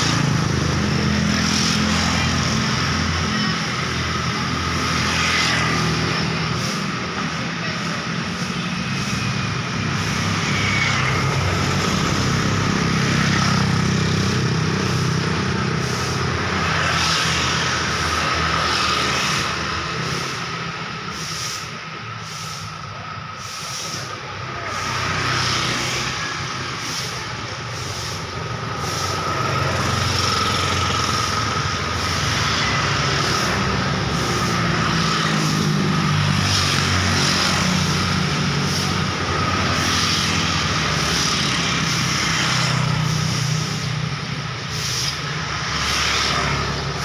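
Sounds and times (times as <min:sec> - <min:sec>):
road traffic passing: 0:00.0 - 0:47.0.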